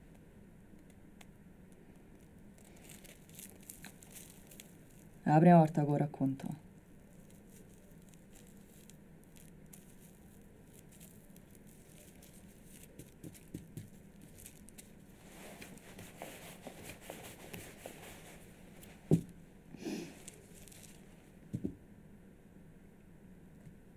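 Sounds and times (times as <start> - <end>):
faint rustling and handling: 0.0 - 21.8.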